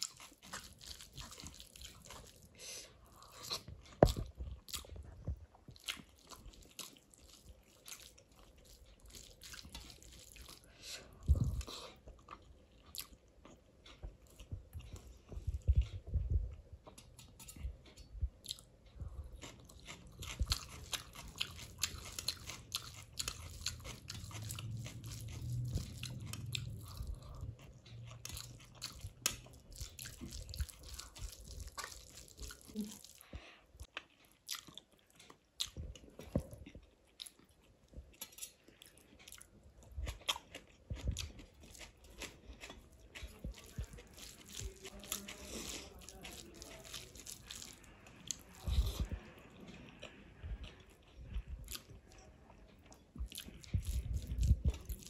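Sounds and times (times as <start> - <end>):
wet chewing: 0.0 - 16.2, 16.8 - 55.0.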